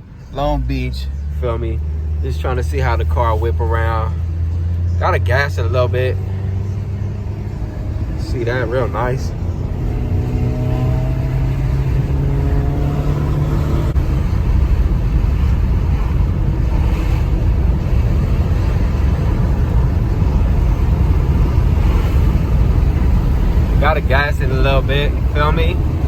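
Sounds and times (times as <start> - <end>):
car engine accelerating: 0.0 - 26.0
road and wind rumble: 0.0 - 26.0.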